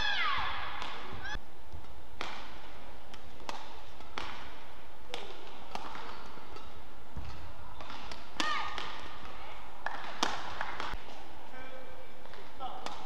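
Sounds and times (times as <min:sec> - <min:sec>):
racket hitting shuttlecock: 0:00.7 - 0:11.2, 0:12.2 - 0:13.0.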